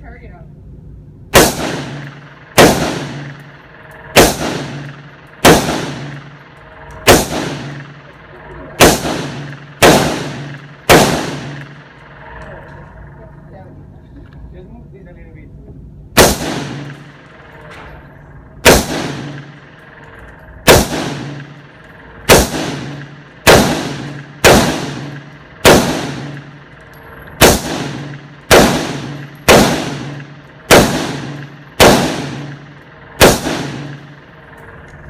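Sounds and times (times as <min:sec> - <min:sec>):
gunshots with echo: 0:01.3 - 0:13.2, 0:16.1 - 0:34.8.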